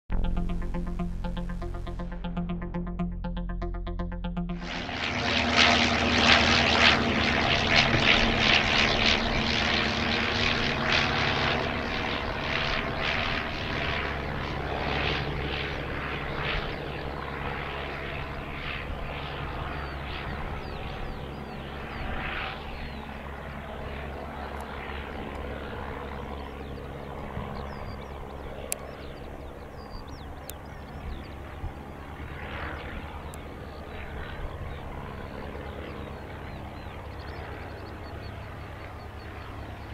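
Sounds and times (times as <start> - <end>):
biplane engine and propeller: 0.0 - 39.9.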